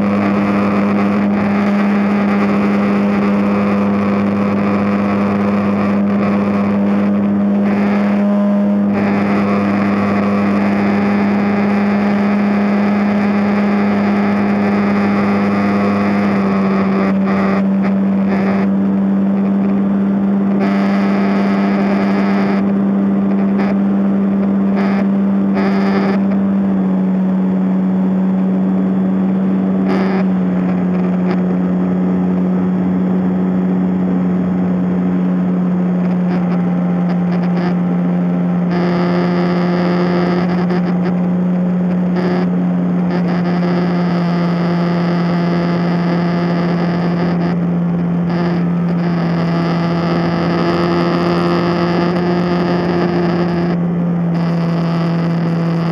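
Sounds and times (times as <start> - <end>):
drone motors humming: 0.0 - 55.9.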